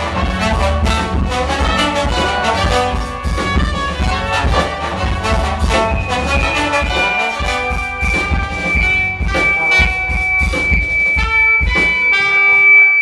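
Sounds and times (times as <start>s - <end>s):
brass band with drums: 0.0s - 13.0s.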